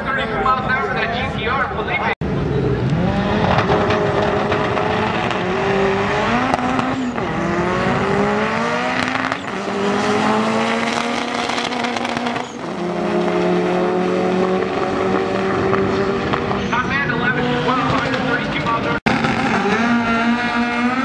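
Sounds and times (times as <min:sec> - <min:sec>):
drag racing cars accelerating: 0:02.2 - 0:21.0.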